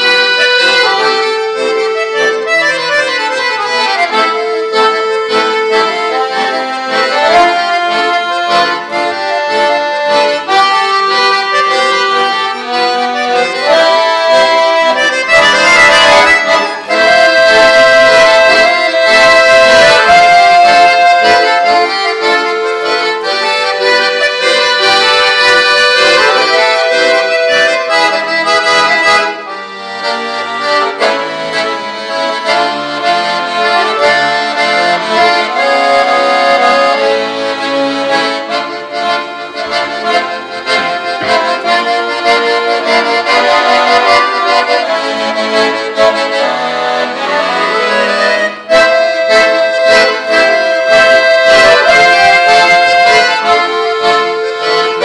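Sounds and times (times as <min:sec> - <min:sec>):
accordion duet: 0:00.0 - 0:55.0.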